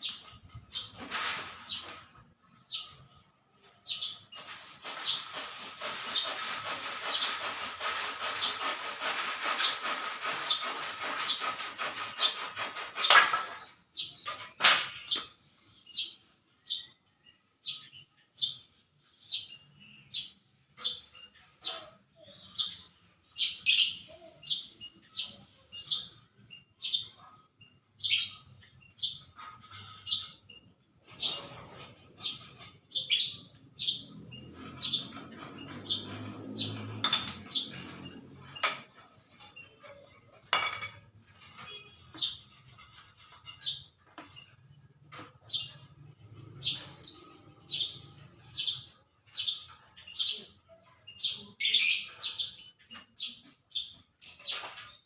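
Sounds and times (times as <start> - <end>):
small birds chirping: 0.0 - 8.9, 9.6 - 40.4, 41.4 - 55.0.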